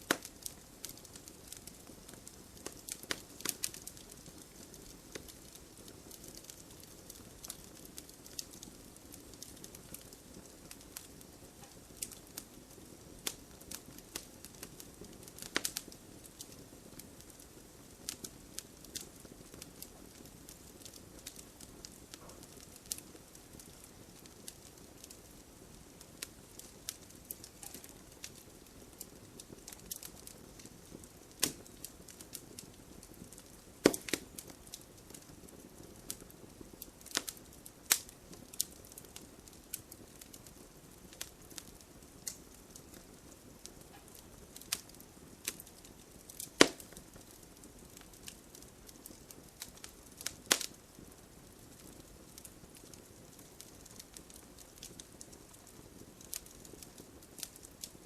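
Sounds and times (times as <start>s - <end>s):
burning logs popping and snapping: 0.0s - 58.0s
wood fire crackling: 0.0s - 58.0s.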